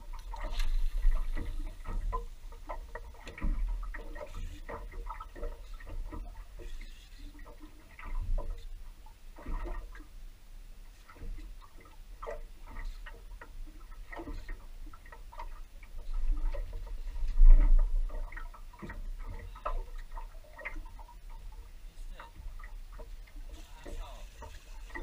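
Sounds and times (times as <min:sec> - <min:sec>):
small waves lapping against hull: 0:00.0 - 0:25.0.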